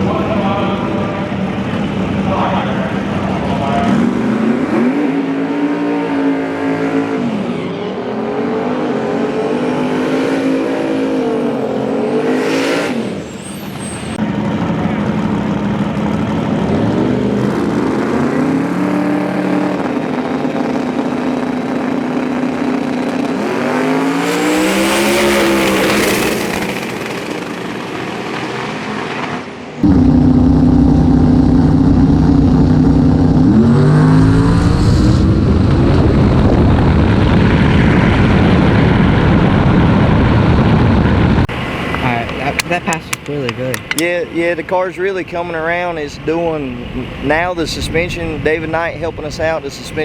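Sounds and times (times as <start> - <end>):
race car engines revving: 0.0 - 50.0.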